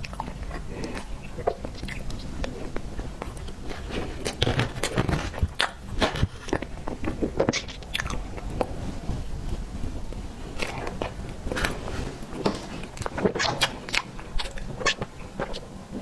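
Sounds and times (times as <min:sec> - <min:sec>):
person chewing with mouth smacks: 0:00.0 - 0:16.0.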